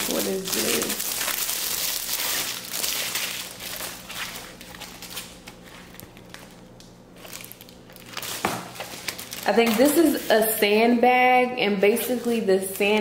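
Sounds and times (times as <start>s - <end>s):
plastic wrapping crinkling: 0.0s - 10.5s.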